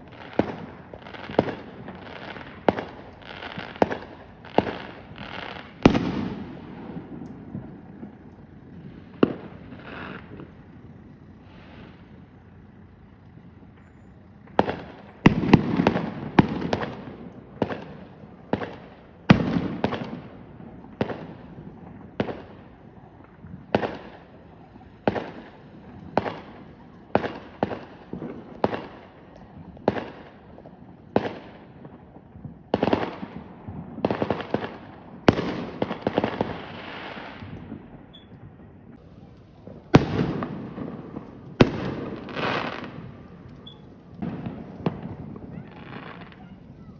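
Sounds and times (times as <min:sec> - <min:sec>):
fireworks bangs with crackle: 0:00.0 - 0:46.9.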